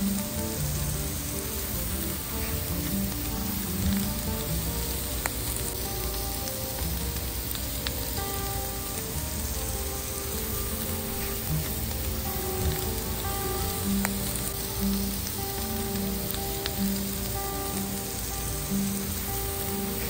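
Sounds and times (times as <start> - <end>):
meat sizzling on griddle: 0.0 - 20.0
soft background music: 0.0 - 20.0.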